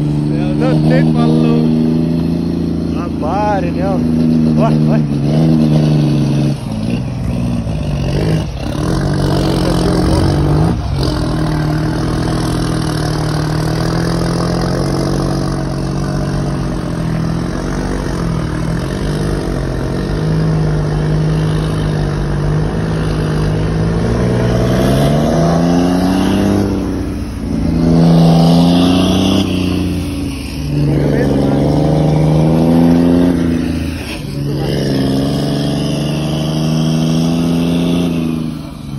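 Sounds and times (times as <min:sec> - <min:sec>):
truck diesel engine accelerating: 0:00.0 - 0:38.9.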